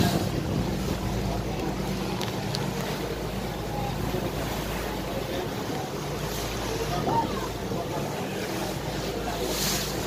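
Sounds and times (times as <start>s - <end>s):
ship engine droning: 0.0s - 10.0s
wind and water rushing: 0.0s - 10.0s.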